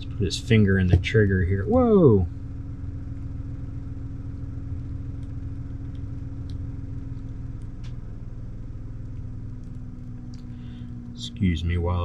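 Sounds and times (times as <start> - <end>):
low motor hum with rumble: 0.0 - 12.0.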